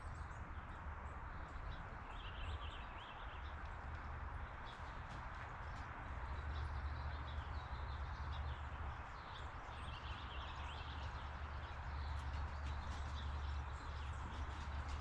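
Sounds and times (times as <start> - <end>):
rushing outdoor noise: 0.0 - 15.0
small birds chirping: 0.0 - 15.0.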